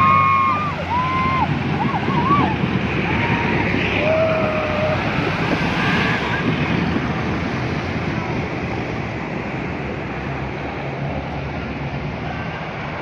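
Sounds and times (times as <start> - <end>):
engine noise: 0.0 - 13.0
water splashing: 0.0 - 13.0
wind on microphone: 0.0 - 13.0.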